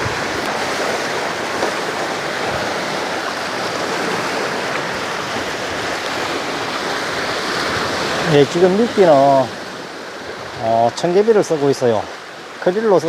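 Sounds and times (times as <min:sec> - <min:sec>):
sea waves washing at shore: 0:00.0 - 0:13.0.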